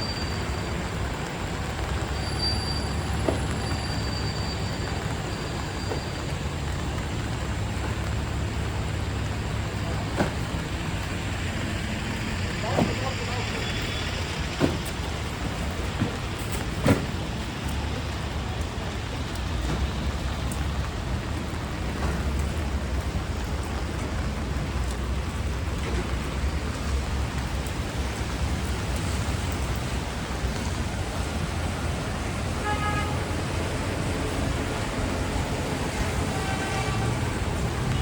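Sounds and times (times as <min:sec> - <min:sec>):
rain on a street: 0:00.0 - 0:38.0
traffic rumble: 0:00.0 - 0:38.0.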